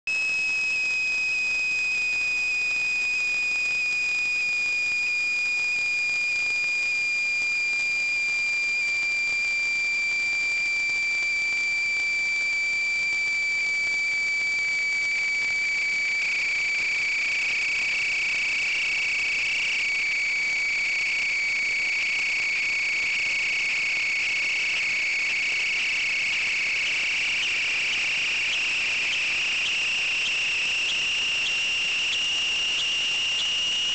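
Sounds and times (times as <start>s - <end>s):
high-pitched electronic whine: 0.1s - 33.9s.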